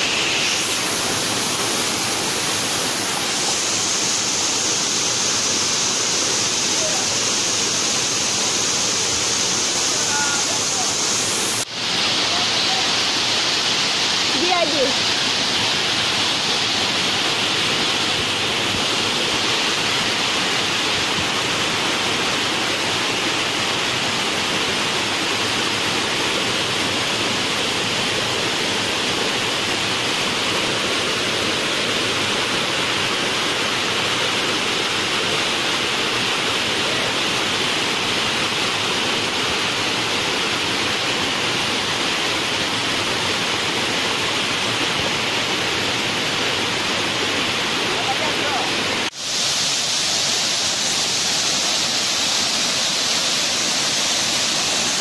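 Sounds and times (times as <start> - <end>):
water pouring over cascades: 0.0 - 55.0.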